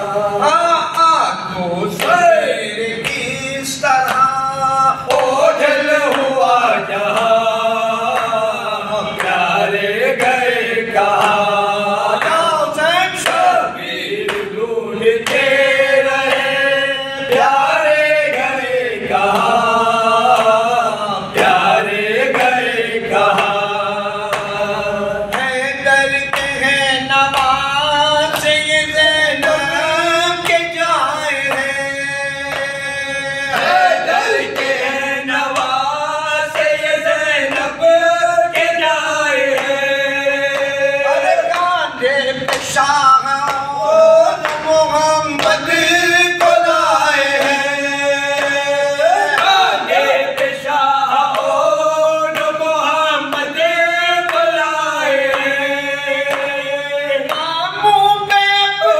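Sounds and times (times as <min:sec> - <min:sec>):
men chanting a lament in unison: 0:00.0 - 0:58.9.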